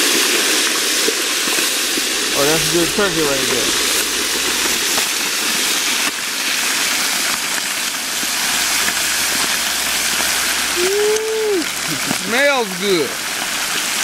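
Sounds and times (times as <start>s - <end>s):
hot oil frying and sizzling: 0.0s - 14.0s.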